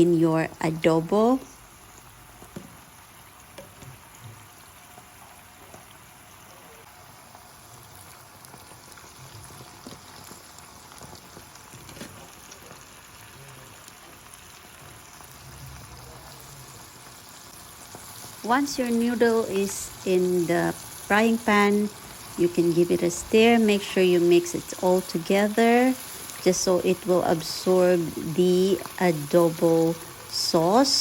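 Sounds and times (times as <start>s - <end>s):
food simmering in a frying pan: 0.0s - 31.0s.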